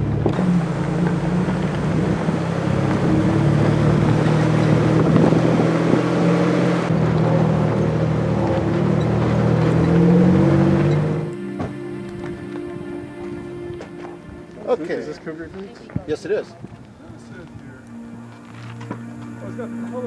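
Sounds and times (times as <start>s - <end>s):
vehicle engine drone: 0.0s - 15.8s, 16.8s - 20.0s
road and wind noise: 0.0s - 20.0s.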